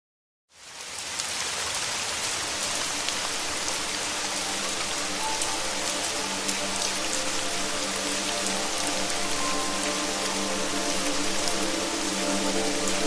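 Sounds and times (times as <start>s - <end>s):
steady rain falling: 0.5s - 13.0s.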